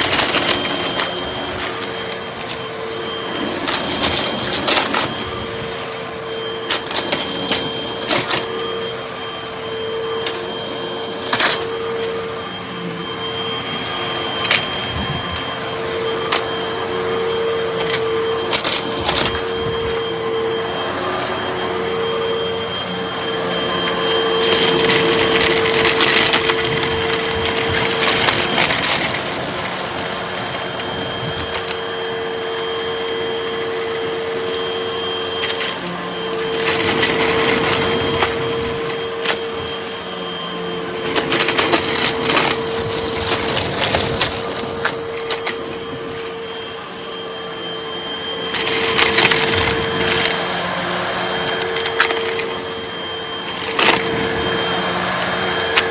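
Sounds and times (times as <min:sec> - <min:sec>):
vacuum cleaner motor hum: 0:00.0 - 0:55.9.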